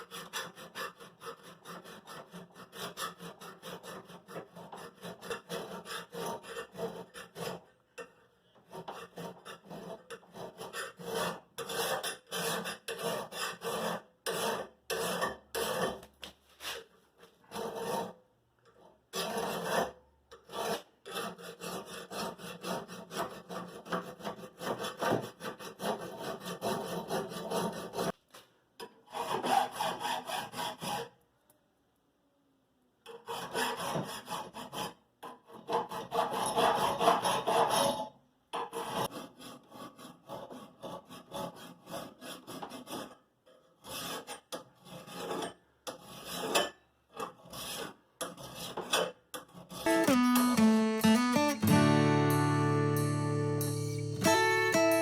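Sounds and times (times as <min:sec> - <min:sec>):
hand tool rasping on knife: 0:00.0 - 0:16.8, 0:17.4 - 0:18.2, 0:19.1 - 0:28.2, 0:29.1 - 0:31.1, 0:33.1 - 0:49.9.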